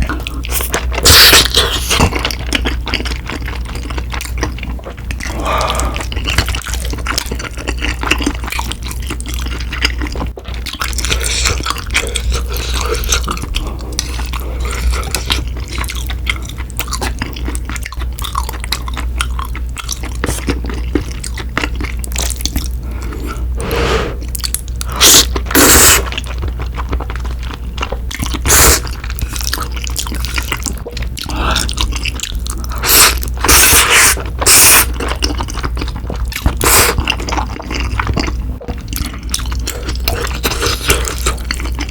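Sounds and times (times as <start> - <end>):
low steady hum: 0.0 - 41.9
wet chewing: 0.0 - 41.9.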